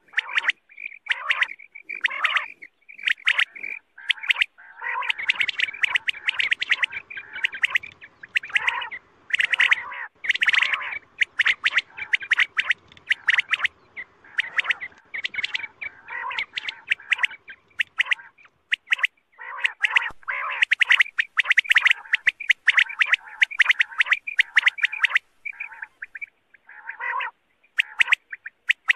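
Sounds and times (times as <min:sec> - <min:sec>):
quail calling: 0:00.0 - 0:28.9.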